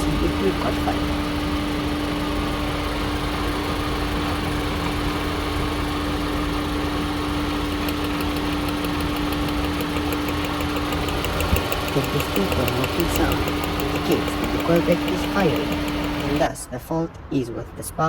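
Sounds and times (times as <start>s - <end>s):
car engine idling with misfire: 0.0s - 16.5s
rapid regular ticking of coil sparking: 0.0s - 16.5s.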